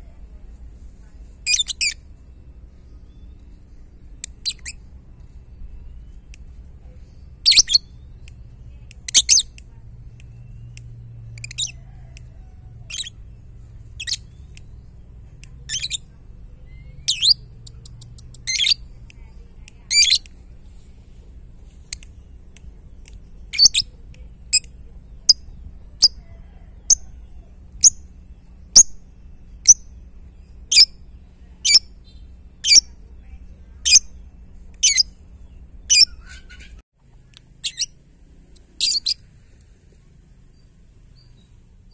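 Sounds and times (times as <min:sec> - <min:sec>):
lovebird chirping: 0:01.4 - 0:12.0, 0:12.8 - 0:20.9, 0:21.7 - 0:36.8, 0:37.6 - 0:38.0, 0:38.7 - 0:39.3.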